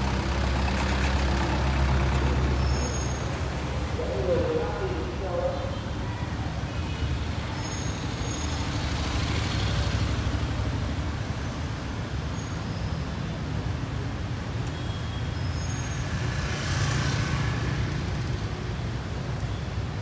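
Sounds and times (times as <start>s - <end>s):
cars and scooter driving past: 0.0s - 20.0s.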